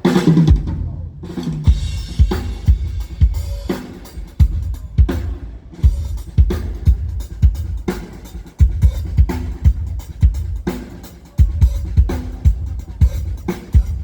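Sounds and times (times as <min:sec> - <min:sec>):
acoustic drum kit groove: 0:00.0 - 0:14.0.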